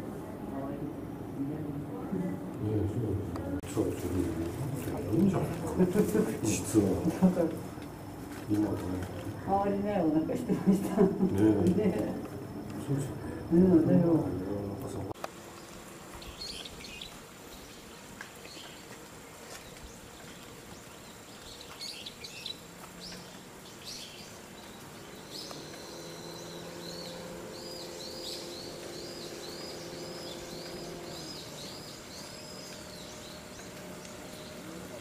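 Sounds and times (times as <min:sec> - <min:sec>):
small birds chirping: 0:03.4 - 0:35.0.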